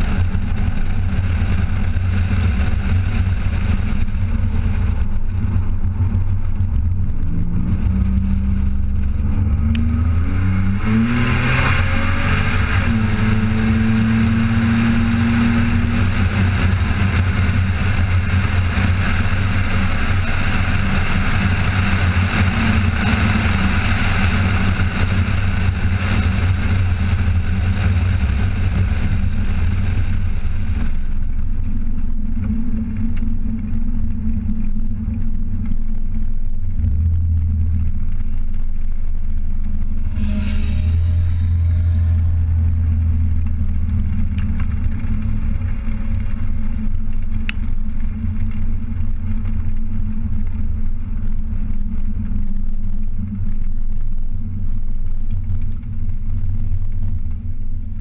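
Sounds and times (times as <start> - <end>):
car engine: 0.0 - 58.0
wind and road noise: 0.0 - 58.0.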